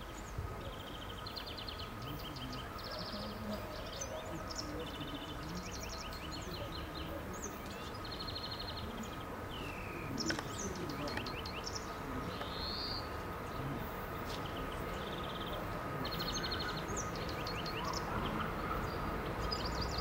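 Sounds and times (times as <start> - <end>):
songbirds trilling and chirping: 0.0 - 20.0.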